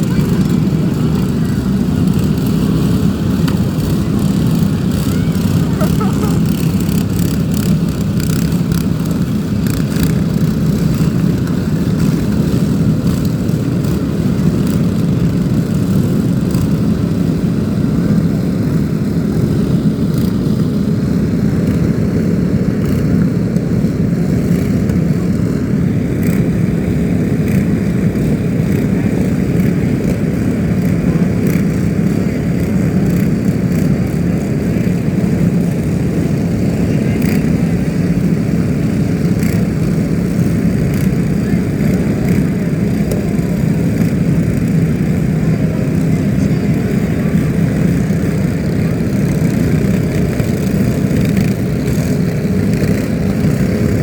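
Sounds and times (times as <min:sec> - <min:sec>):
low rumble of heavy machinery: 0:00.0 - 0:54.0.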